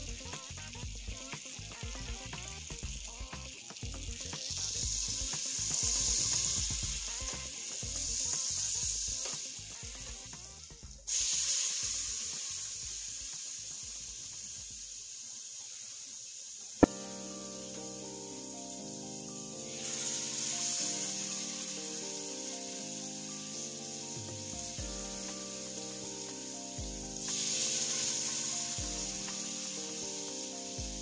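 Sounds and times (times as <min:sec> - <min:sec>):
butter sizzling in a pot: 0:00.0 - 0:31.0.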